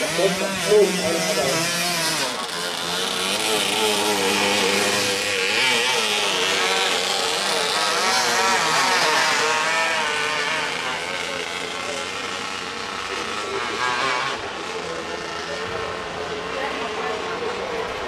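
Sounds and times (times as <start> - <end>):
boat engine running flat out: 0.0 - 18.0.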